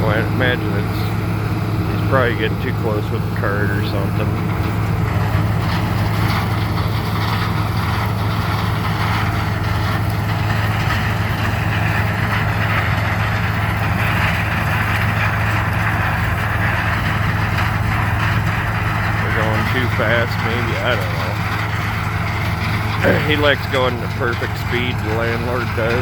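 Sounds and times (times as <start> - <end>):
machinery engines droning: 0.0 - 26.0.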